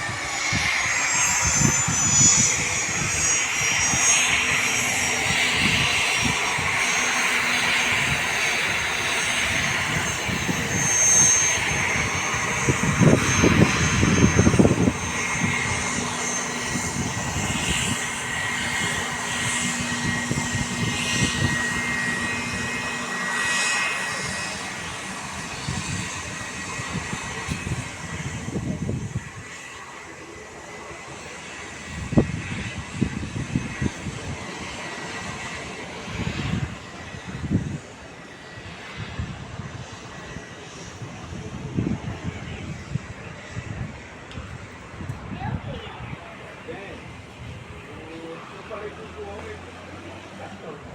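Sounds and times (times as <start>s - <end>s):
airplane engines whining: 0.0s - 50.9s.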